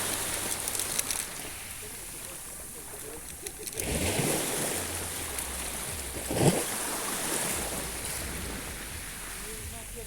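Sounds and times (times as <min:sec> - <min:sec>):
breaking wave splash: 0:00.0 - 0:10.0
sea waves washing in: 0:00.0 - 0:10.0.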